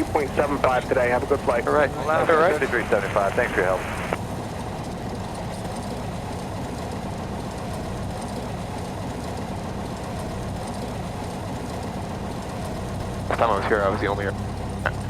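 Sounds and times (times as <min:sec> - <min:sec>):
aircraft engine droning: 0:00.0 - 0:15.0.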